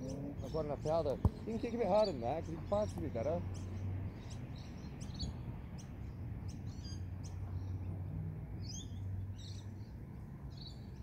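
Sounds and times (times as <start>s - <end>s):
low outdoor rumble: 0.0s - 11.0s
small birds chirping: 0.0s - 11.0s.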